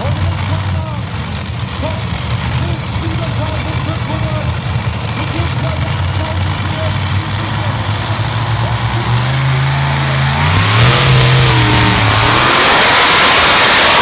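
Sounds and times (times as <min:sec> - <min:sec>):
tractor engine revving and roaring: 0:00.0 - 0:14.0.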